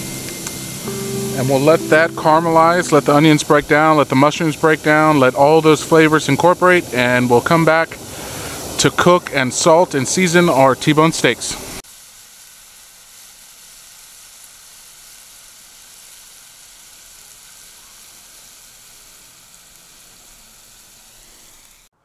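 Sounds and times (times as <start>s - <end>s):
onions sizzling in a skillet: 0.0s - 21.9s.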